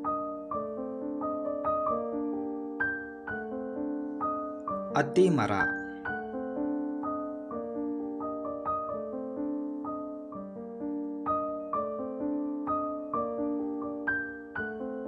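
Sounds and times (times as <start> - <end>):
gentle solo piano melody: 0.0 - 15.0.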